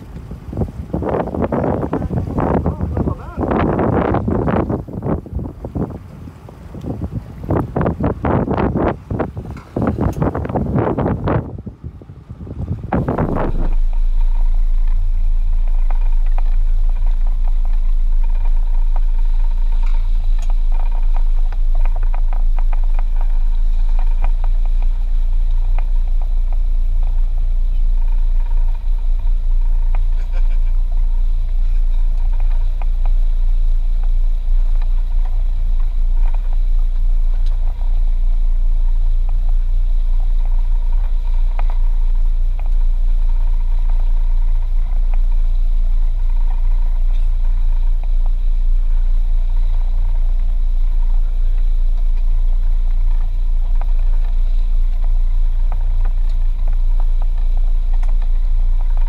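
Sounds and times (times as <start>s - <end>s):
boat engine rumbling: 0.0s - 59.0s.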